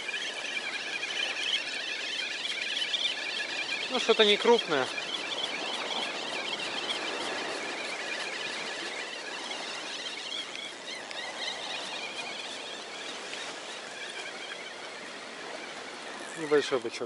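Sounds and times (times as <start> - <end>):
fishing reel squeaking whir: 0.0 - 16.8
sea noise: 0.0 - 17.0.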